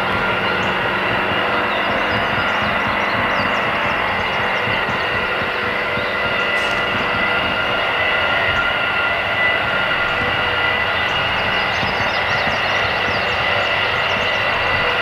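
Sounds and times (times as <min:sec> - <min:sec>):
compressor roar: 0:00.0 - 0:15.0
steady whining tones: 0:00.0 - 0:15.0.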